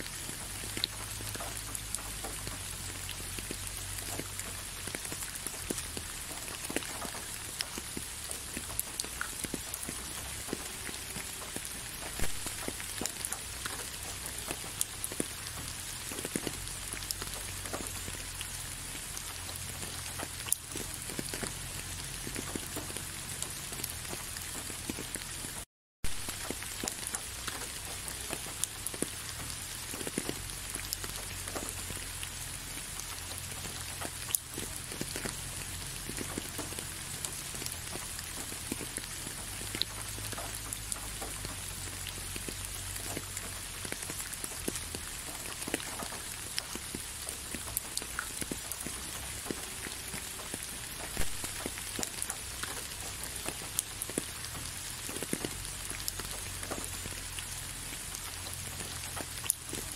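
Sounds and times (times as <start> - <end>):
raindrops ticking: 0.0 - 59.9
steady rain hiss: 0.0 - 59.9.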